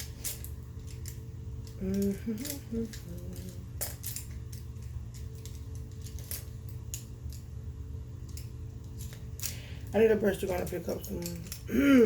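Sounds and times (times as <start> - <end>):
makeup brushes clicking and rattling: 0.0 - 7.5, 8.2 - 11.8
steady low hum: 0.0 - 12.0.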